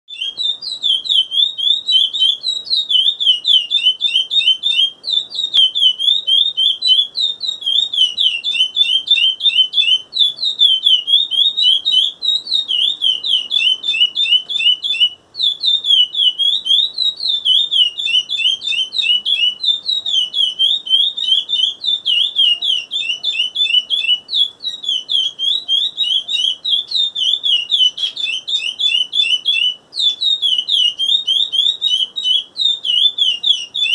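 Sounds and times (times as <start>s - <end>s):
finch singing high twittering notes: 0.1s - 33.9s.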